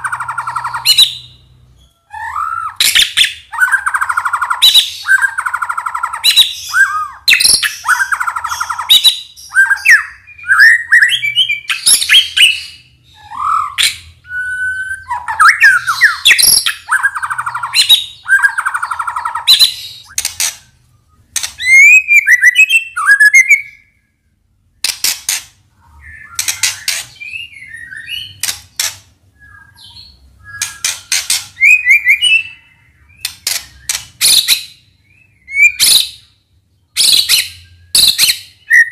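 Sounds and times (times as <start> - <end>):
songbird singing varied song: 0.0 - 24.1, 25.8 - 38.9.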